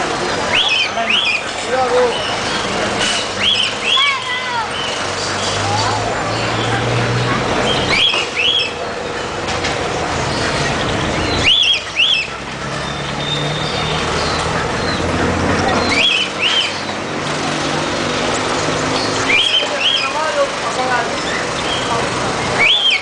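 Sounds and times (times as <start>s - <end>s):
traffic and street noise: 0.0s - 23.0s.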